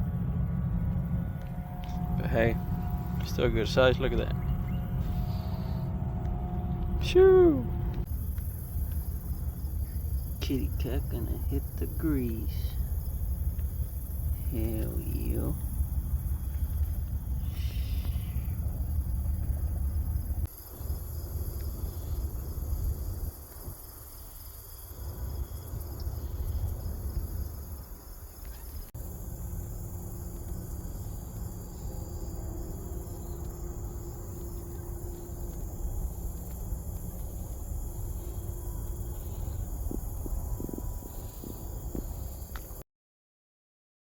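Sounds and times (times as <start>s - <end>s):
low rumble: 0.0s - 23.9s, 24.9s - 42.8s
insects chirring: 0.0s - 42.8s.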